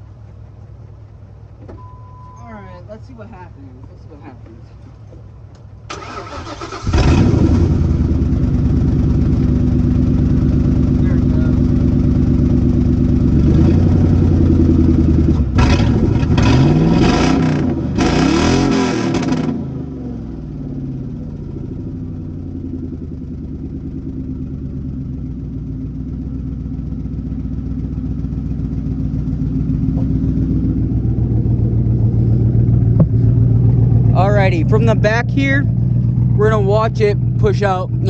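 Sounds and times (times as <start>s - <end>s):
loud car engine revving and idling: 6.0s - 38.0s.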